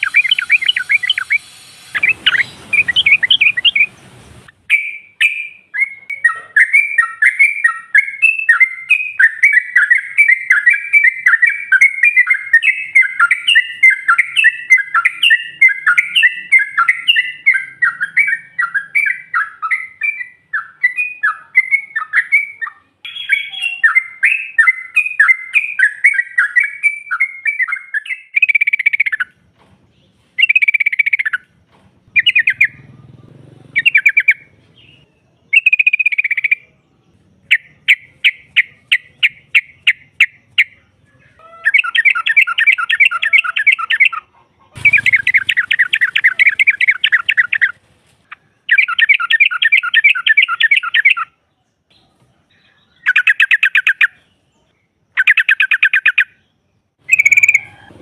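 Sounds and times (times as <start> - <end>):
bulbul chattering: 0.0 - 26.6, 30.4 - 51.3, 55.1 - 58.0.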